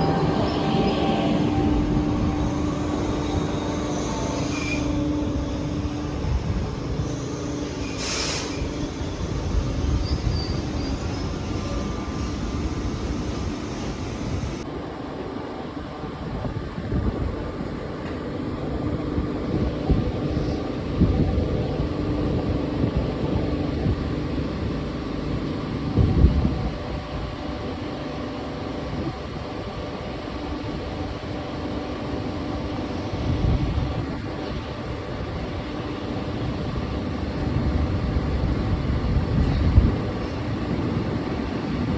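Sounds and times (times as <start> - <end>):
constant hum: 0.0 - 41.9
train rumbling: 0.0 - 41.9.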